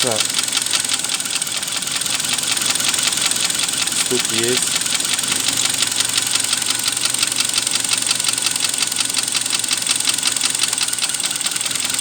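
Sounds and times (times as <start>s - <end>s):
car engine idling with ticking knock: 0.0s - 12.0s.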